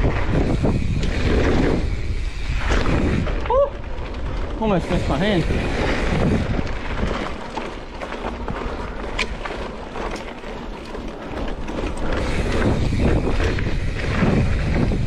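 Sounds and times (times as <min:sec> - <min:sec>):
wind over microphone: 0:00.0 - 0:09.3, 0:11.4 - 0:15.0
bike tyres rolling on dirt: 0:00.0 - 0:15.0.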